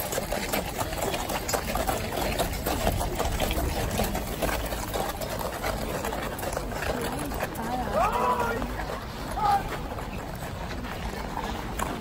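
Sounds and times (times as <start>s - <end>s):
scattered voices: 0.0s - 12.0s.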